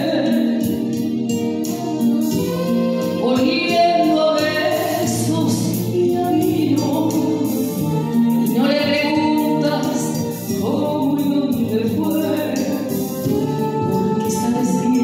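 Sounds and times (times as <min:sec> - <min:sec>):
woman singing into microphone: 0:00.0 - 0:01.5, 0:02.3 - 0:15.0
musical accompaniment: 0:00.0 - 0:15.0.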